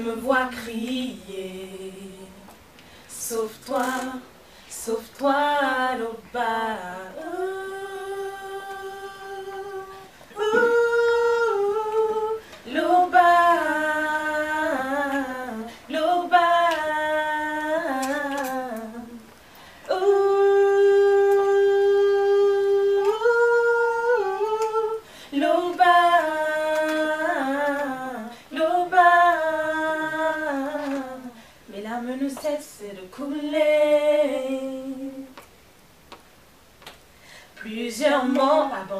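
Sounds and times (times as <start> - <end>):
woman singing a cappella: 0.0 - 35.6, 37.4 - 38.9.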